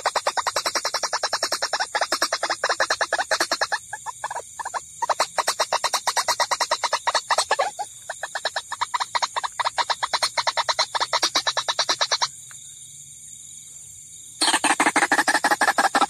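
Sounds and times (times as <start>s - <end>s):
waterhen calls: 0.0s - 12.3s, 14.4s - 16.0s.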